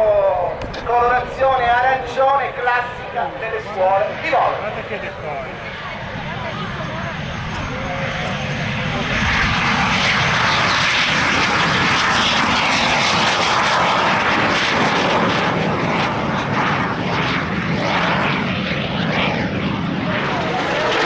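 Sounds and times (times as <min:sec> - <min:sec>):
loud jet engine noise: 0:00.0 - 0:21.0.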